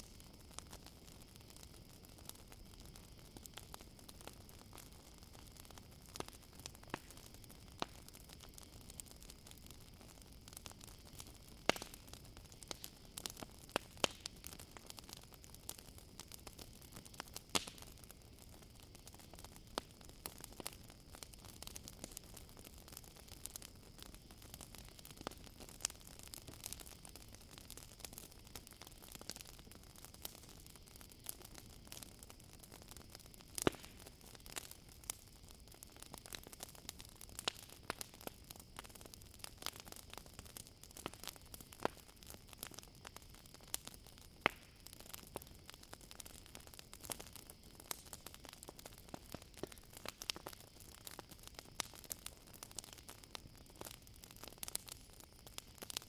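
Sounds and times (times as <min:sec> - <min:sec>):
campfire crackling: 0:00.0 - 0:56.0
crickets chirring: 0:00.0 - 0:56.0.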